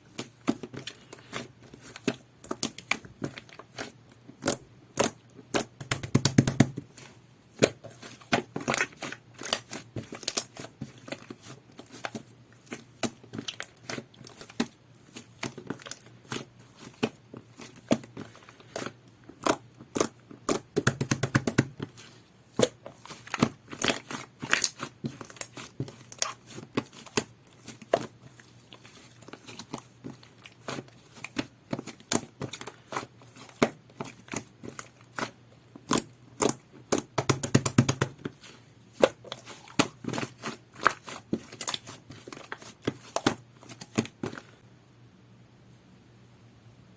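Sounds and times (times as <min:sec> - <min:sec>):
slime squished by hand: 0:00.1 - 0:44.6.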